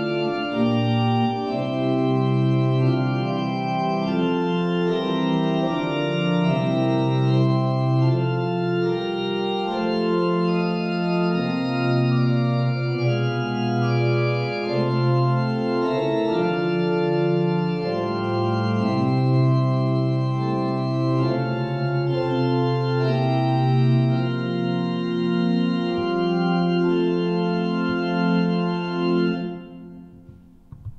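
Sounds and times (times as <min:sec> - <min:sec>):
church organ playing chords: 0:00.0 - 0:30.4.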